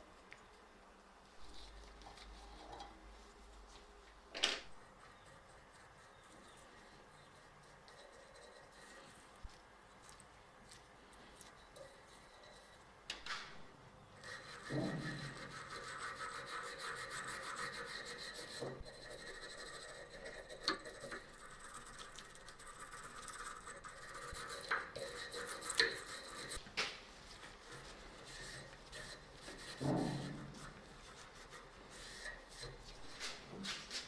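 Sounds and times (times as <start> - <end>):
rubbing against a surface: 4.8 - 12.8, 14.2 - 34.0.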